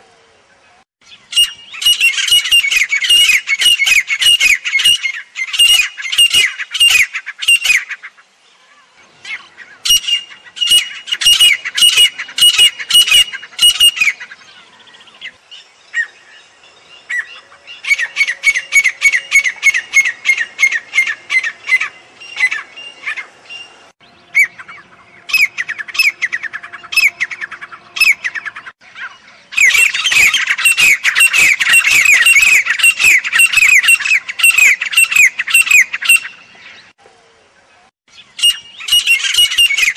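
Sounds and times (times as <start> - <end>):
francolin calling loudly: 1.0 - 37.0, 38.1 - 39.9.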